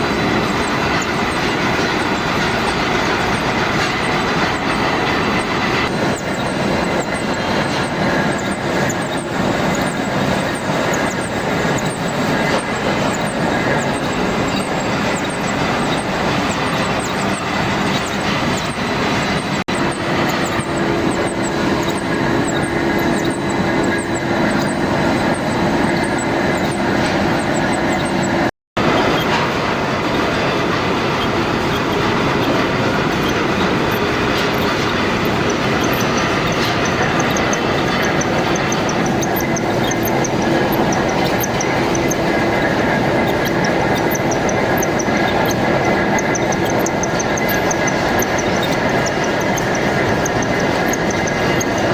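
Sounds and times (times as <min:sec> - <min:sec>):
machine tool cutting steel: 0:00.0 - 0:51.9.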